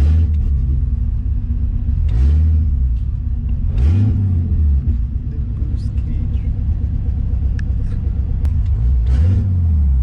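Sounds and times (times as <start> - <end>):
car engine pulling through gears: 0.0 - 10.0.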